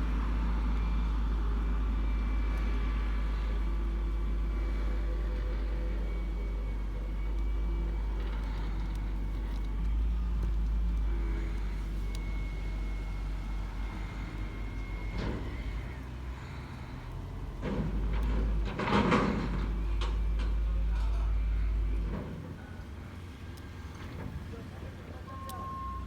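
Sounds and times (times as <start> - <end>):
garbage truck engine rumble: 0.0 - 26.0.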